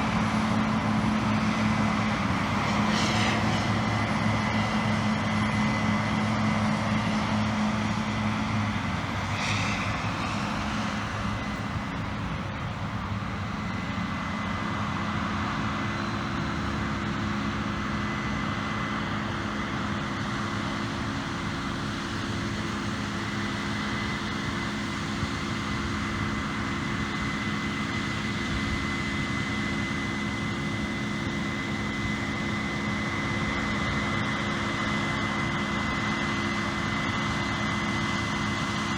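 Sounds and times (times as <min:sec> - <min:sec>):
harvest machine engine drone: 0:00.0 - 0:38.9.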